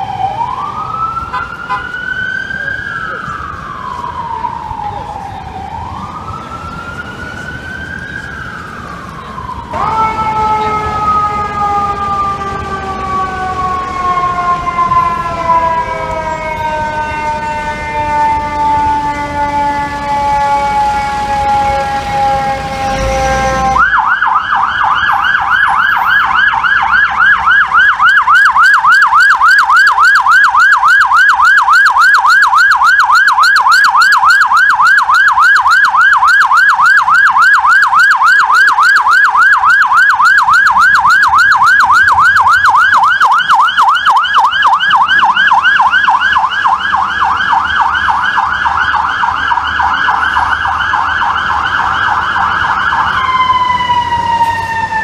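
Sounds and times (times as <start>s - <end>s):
fire engine siren yelping: 0.0s - 55.0s.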